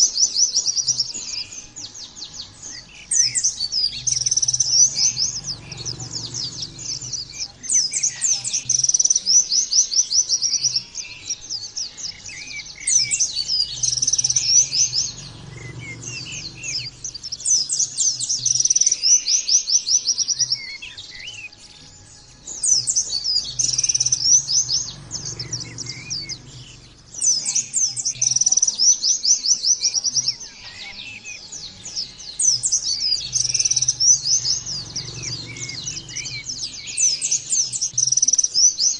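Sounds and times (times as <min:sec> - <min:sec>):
bird chattering trills: 0:00.0 - 0:38.9.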